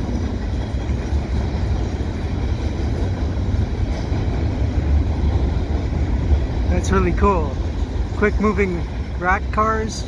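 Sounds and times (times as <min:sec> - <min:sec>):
freight train wheels rumbling on rails: 0:00.0 - 0:10.0.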